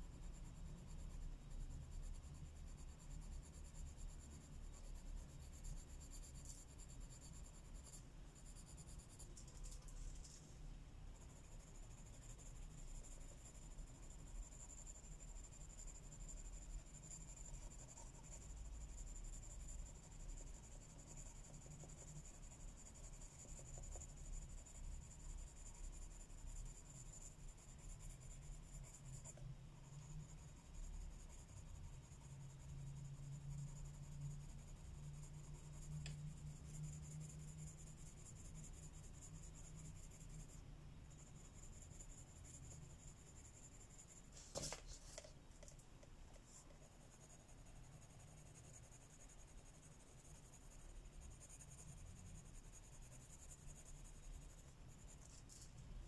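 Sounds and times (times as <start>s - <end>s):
colouring strokes scratching on paper: 0.0s - 56.0s.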